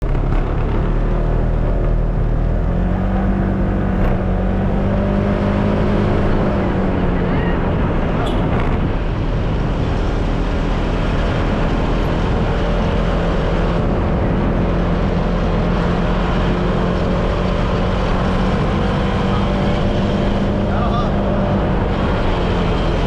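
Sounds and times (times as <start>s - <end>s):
scooter engine straining uphill: 0.0s - 23.0s.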